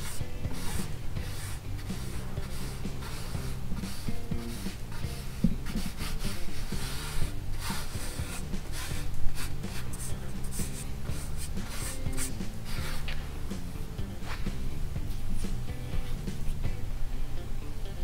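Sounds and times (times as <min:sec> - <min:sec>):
hand brushing fabric: 0:00.0 - 0:13.2, 0:14.2 - 0:15.7
background music: 0:00.0 - 0:18.0.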